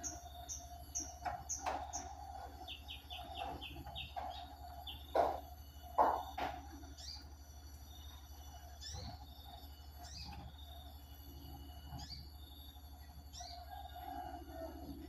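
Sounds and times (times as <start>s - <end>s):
bird chirping: 0.0s - 15.0s
steady low hum: 0.0s - 15.0s.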